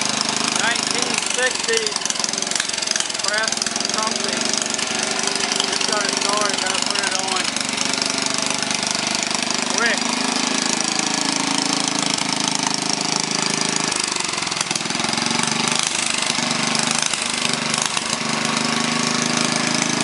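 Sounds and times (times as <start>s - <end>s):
small engine clattering: 0.0s - 20.0s.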